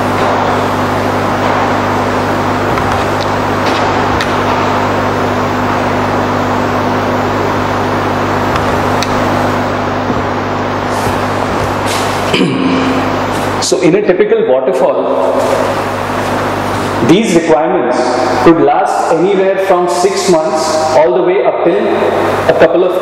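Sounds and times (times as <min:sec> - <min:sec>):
low electrical mains hum: 0:00.0 - 0:23.0.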